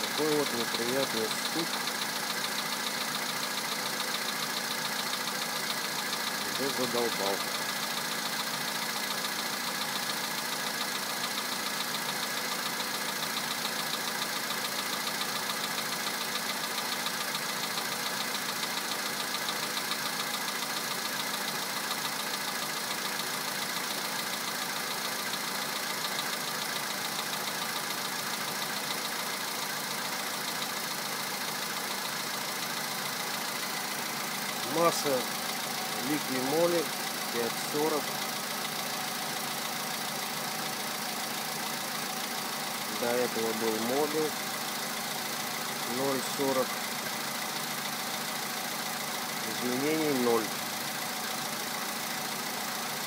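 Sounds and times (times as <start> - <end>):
car engine idling: 0.0 - 53.0
rapid engine knock: 0.1 - 53.0.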